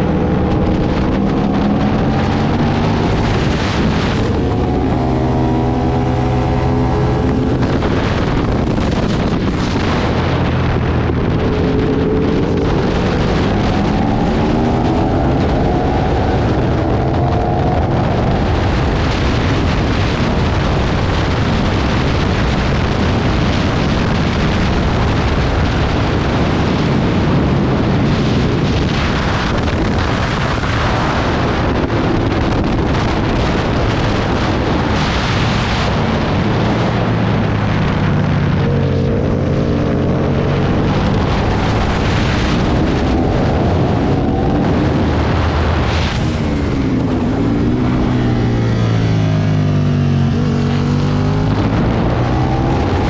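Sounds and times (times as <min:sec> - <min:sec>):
motorcycle engine accelerating: 0:00.0 - 0:53.0
wind rush over microphone: 0:00.0 - 0:53.0.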